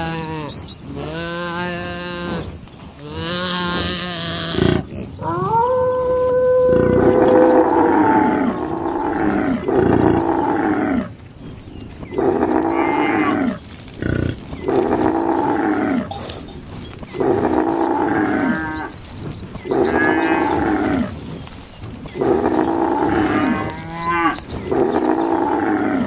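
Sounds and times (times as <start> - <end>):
cattle mooing: 3.1 - 11.1, 12.2 - 19.0, 19.7 - 26.0.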